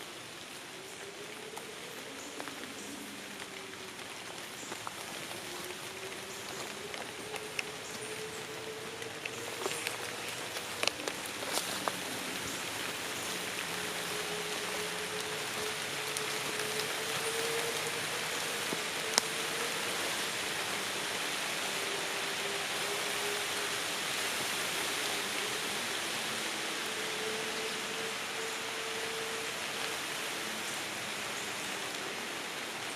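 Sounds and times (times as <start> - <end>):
rain pattering on leaves: 0.0 - 32.9.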